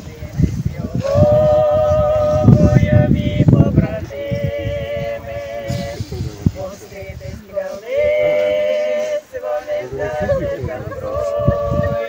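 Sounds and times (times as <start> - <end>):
low rumble of crowd noise: 0.0 - 12.0
slow funeral singing: 0.0 - 12.0.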